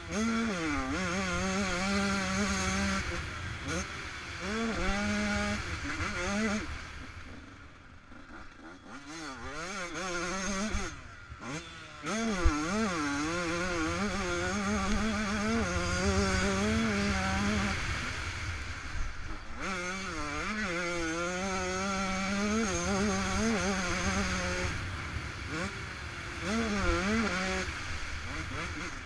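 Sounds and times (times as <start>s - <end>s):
two-stroke motocross engine revving: 0.0s - 29.0s.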